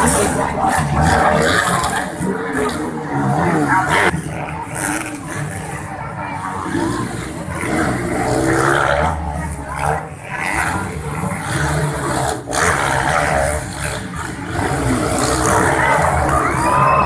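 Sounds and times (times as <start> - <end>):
motorcycle engines revving: 0.0 - 17.0
spectators talking: 0.0 - 17.0.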